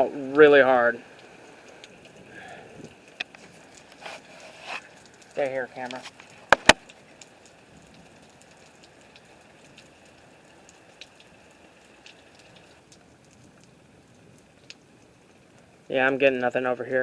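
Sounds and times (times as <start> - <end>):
heavy rain hissing: 0.0 - 17.0
raindrops ticking: 0.0 - 17.0.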